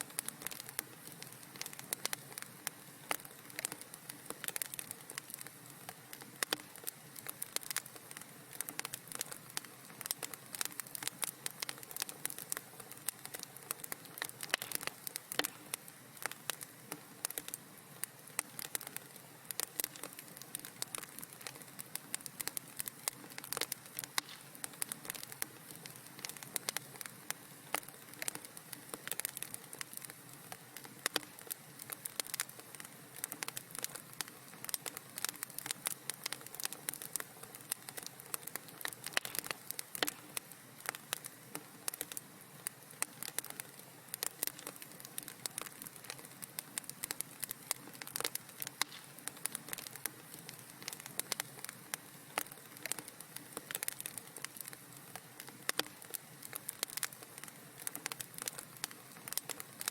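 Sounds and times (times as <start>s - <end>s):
fire low hiss: 0.0s - 59.9s
wood fire popping and snapping: 0.0s - 59.9s.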